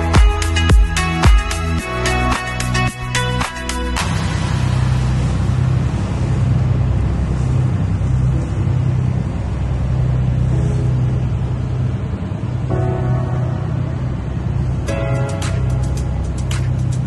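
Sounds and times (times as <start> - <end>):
motorboat engine drone: 0.0 - 17.0.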